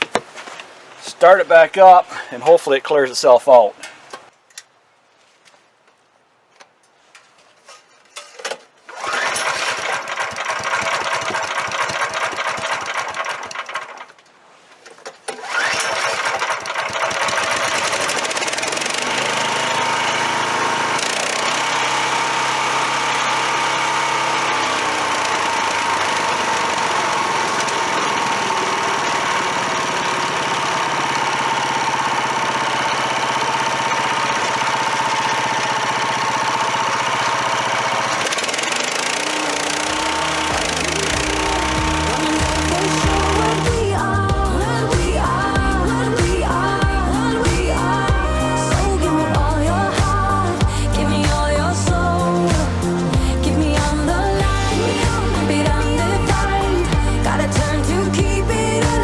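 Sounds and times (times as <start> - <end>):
small gas engine running with whine: 8.9 - 14.1, 15.3 - 59.0.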